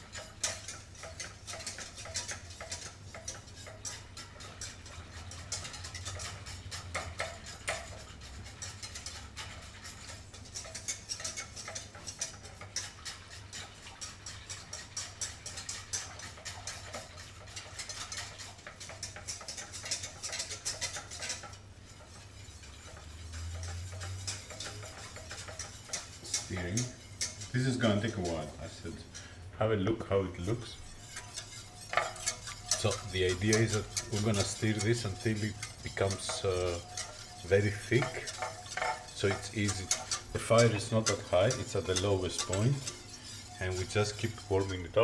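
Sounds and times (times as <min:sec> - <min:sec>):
utensil scraping metal pot: 0:00.0 - 0:45.0.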